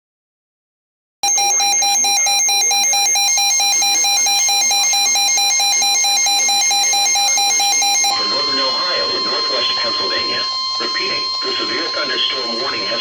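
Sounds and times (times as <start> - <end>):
warbling weather alert alarm: 1.2 - 13.0.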